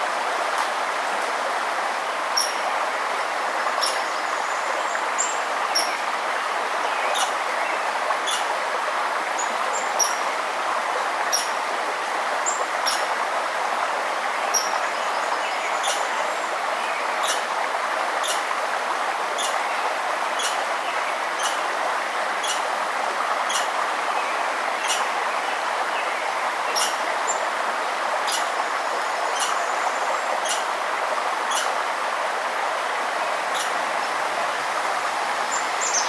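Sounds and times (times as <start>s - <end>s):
river flowing: 0.0s - 36.0s.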